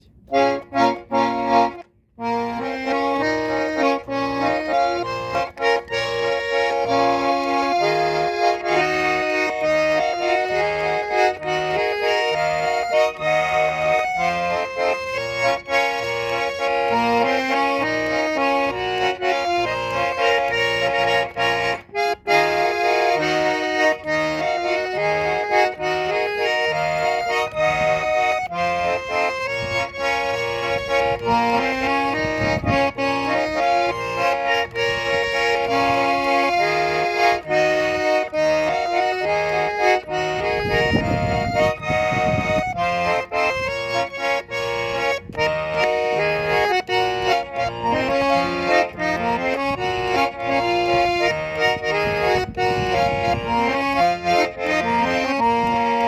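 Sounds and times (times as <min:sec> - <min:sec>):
button accordion melody: 0:00.0 - 0:56.0.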